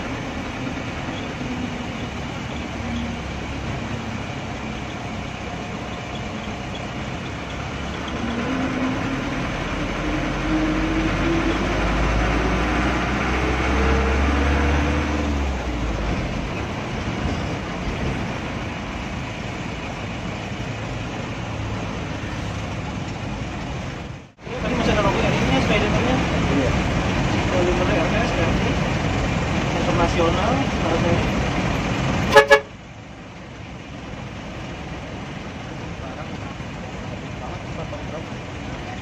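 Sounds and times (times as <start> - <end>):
bus diesel engine pulling away: 0.0 - 39.0.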